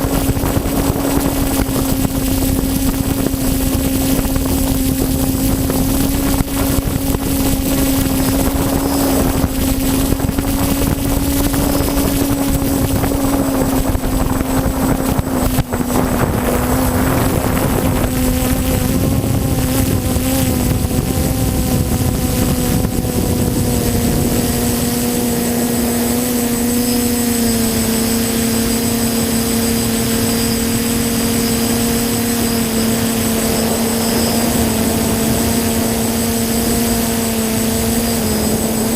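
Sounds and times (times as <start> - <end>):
quadcopter propellers droning: 0.0 - 38.9.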